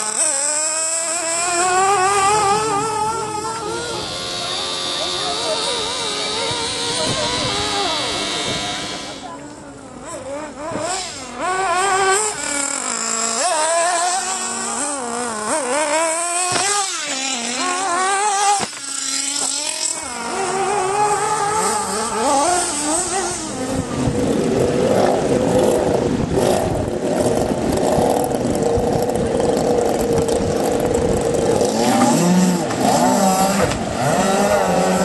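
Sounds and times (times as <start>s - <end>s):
model boat engine running: 0.0s - 35.0s
model car engine revving: 0.0s - 35.0s.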